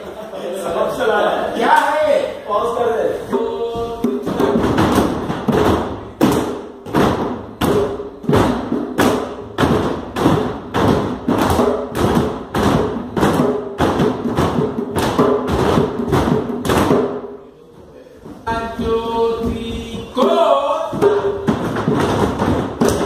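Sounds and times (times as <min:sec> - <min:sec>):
drum beats: 0:03.2 - 0:17.4, 0:18.2 - 0:23.0.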